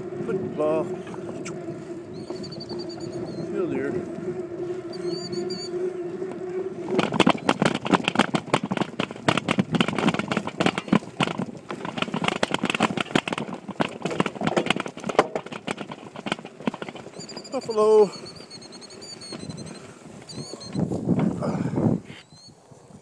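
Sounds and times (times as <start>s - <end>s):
steady hum: 0.0s - 22.1s.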